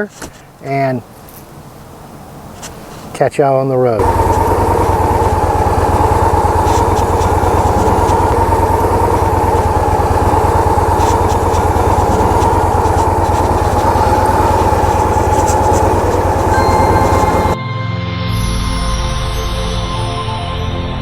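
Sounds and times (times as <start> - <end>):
motorcycle engine running steadily: 0.0 - 17.6.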